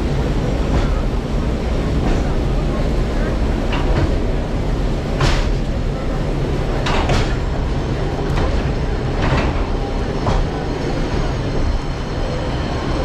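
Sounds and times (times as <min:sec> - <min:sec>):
rumble of wheels on rails: 0:00.0 - 0:13.0.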